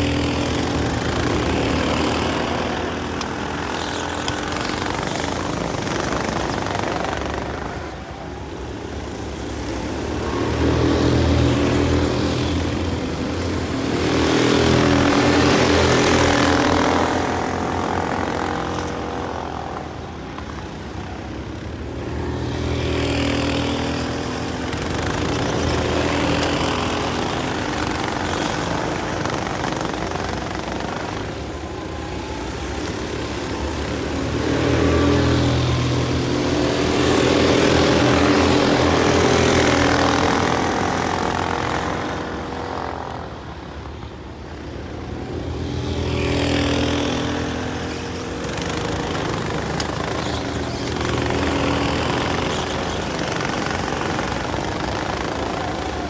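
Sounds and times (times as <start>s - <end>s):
go-kart engines buzzing: 0.0s - 56.0s.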